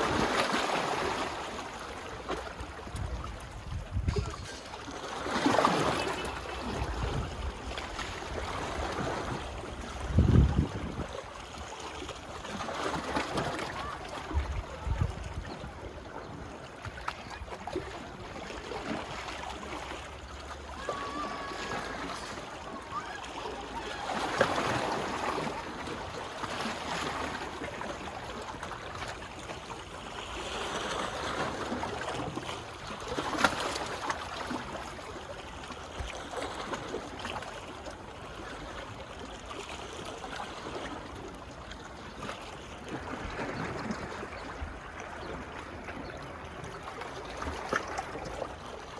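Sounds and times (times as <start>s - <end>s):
small waves lapping on beach: 0.0s - 48.9s.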